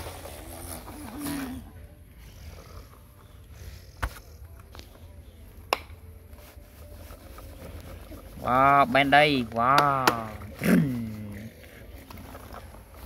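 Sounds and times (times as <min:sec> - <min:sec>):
plastic toy truck in sand: 0:00.0 - 0:13.0.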